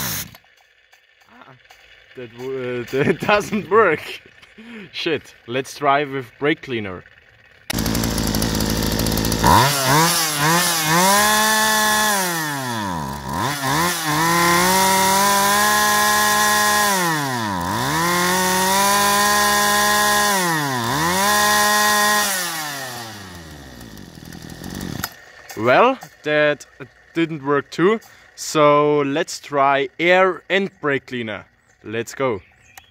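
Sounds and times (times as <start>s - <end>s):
chainsaw revving: 0.0s - 5.6s, 6.6s - 30.2s.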